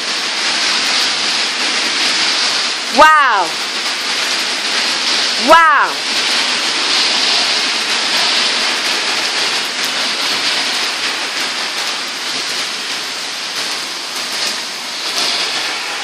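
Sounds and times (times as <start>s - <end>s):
heavy rain hissing: 0.0s - 16.0s
raindrops spattering: 0.0s - 16.0s.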